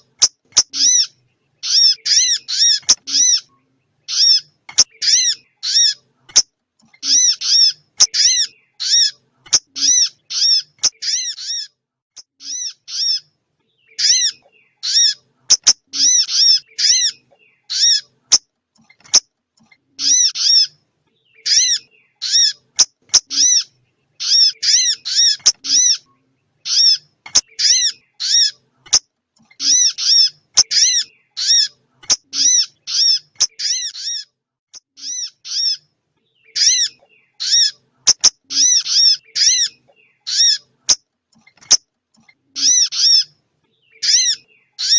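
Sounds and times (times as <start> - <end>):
recorded bird chip notes: 0.0 - 44.9.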